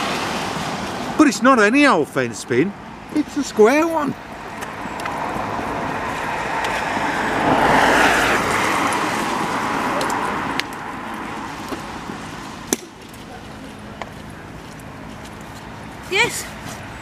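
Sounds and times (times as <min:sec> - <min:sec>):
car passing: 0:00.0 - 0:17.0.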